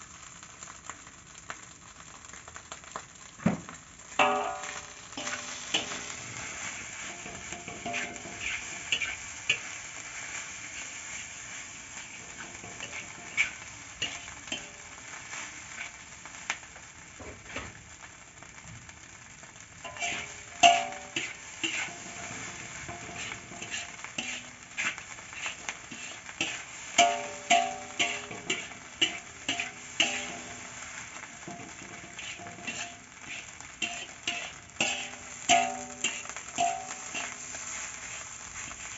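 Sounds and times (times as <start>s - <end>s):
sizzle of frying rice: 0.0s - 38.9s
spatula scraping wok: 4.1s - 16.4s, 19.8s - 38.9s.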